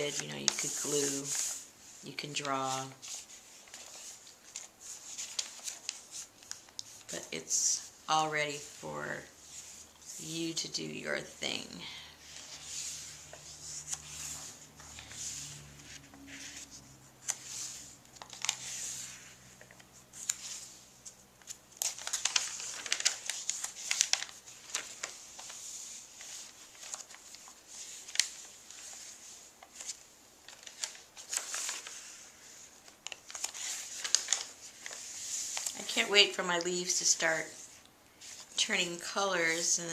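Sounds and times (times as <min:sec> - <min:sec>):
paper pages rustling: 0:00.0 - 0:10.4, 0:11.9 - 0:39.7.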